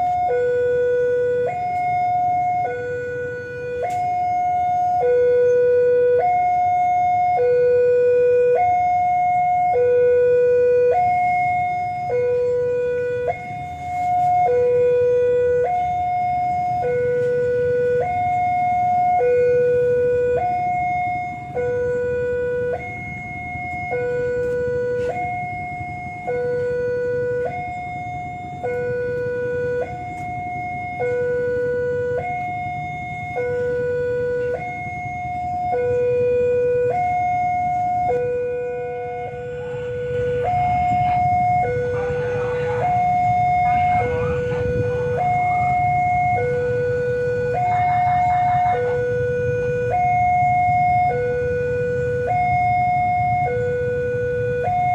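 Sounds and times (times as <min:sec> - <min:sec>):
level-crossing alarm two-tone warning: 0:00.0 - 0:54.9.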